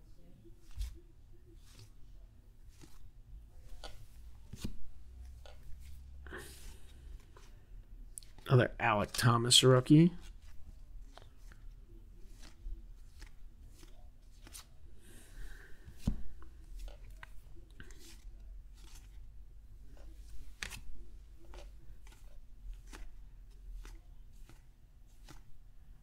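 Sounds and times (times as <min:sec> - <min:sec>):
cards sliding and clicking: 0:00.6 - 0:01.0, 0:01.6 - 0:02.0, 0:02.6 - 0:07.6, 0:08.2 - 0:08.5, 0:10.2 - 0:25.6
cards rustling: 0:00.6 - 0:25.9.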